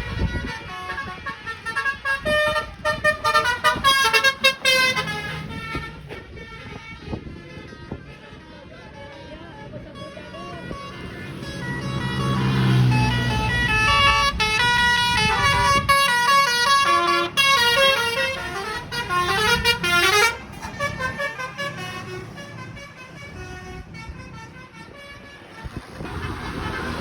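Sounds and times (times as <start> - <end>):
bus engine rumbling: 0.0 - 27.0
multi-tone bus horn melody: 0.0 - 27.0.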